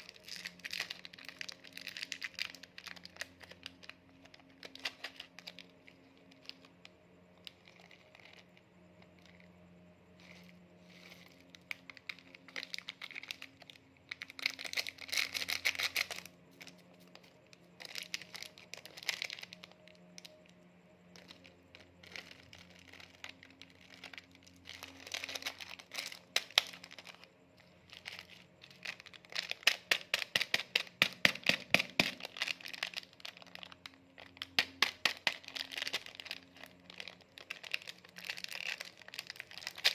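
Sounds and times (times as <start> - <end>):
faint low hum: 0.0 - 39.9
plastic packaging crinkling: 0.0 - 39.9.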